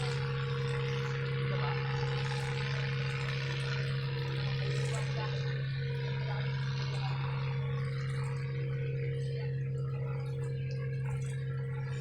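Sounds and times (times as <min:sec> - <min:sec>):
faint steady tones: 0:00.0 - 0:12.0
steady low hum: 0:00.0 - 0:12.0.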